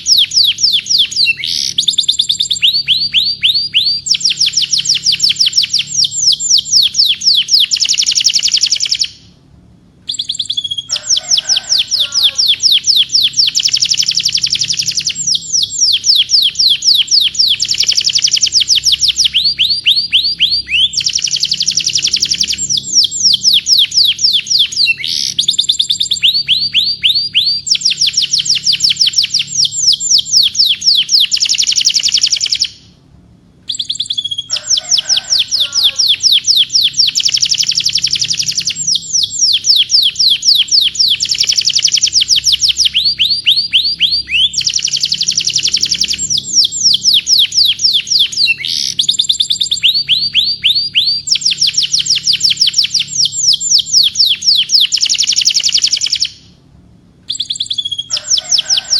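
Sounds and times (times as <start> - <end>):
canary singing trills: 0.0 - 9.4, 10.0 - 33.0, 33.6 - 56.6, 57.2 - 58.9.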